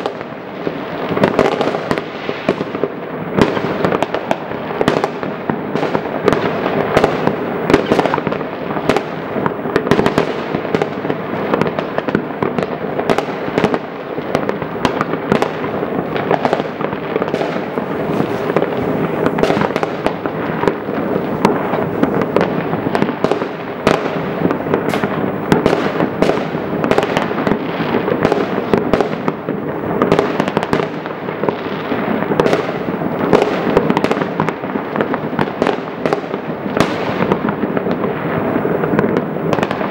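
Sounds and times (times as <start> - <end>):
fireworks bangs and crackles: 0.0 - 39.9
sharp single firework bangs: 1.1 - 39.9.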